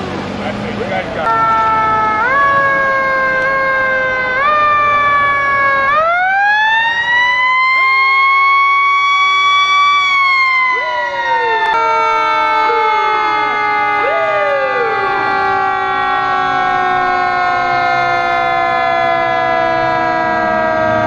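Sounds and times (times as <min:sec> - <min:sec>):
emergency sirens wailing: 0:00.0 - 0:21.0
siren yelps: 0:01.2 - 0:21.0.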